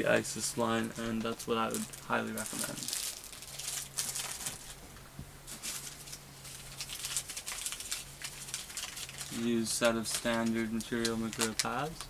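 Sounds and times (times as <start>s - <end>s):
faint low hum: 0.0s - 12.0s
packaging rustling: 0.7s - 4.8s, 5.5s - 12.0s.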